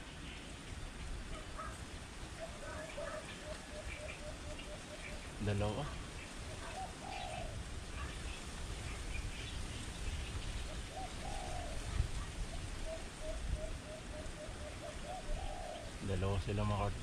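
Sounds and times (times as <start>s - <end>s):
doves cooing: 1.4s - 16.9s.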